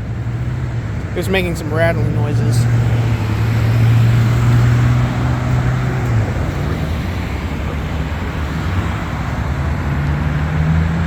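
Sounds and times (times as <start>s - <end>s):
nearby vehicle engine drone: 0.0s - 11.0s
road traffic: 0.0s - 11.0s.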